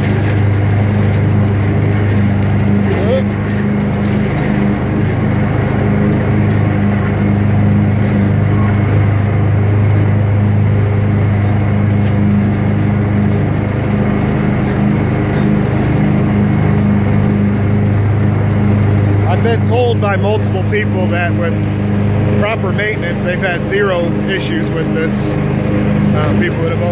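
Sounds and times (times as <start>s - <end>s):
lawn mower engine running: 0.0s - 26.9s.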